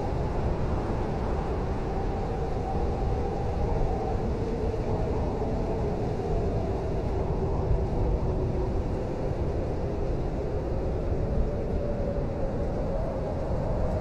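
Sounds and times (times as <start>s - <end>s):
blizzard wind howling: 0.0s - 14.0s.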